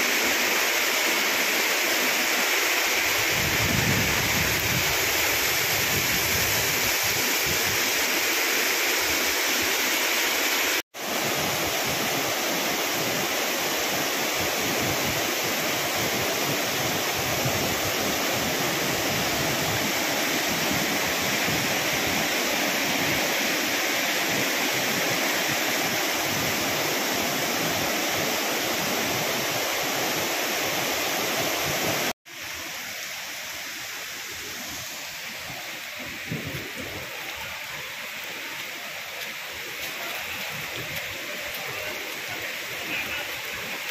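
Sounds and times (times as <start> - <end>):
heavy rain and running water: 0.0 - 43.9.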